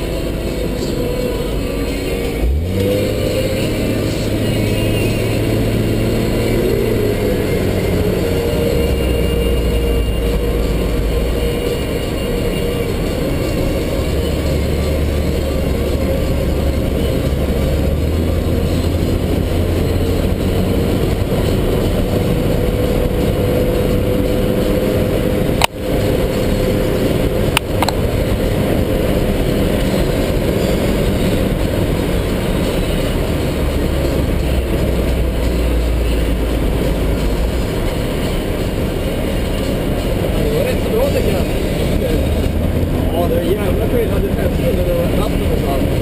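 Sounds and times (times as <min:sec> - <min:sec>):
car engine running hard: 0:00.0 - 0:46.0
road and wind noise: 0:00.0 - 0:46.0.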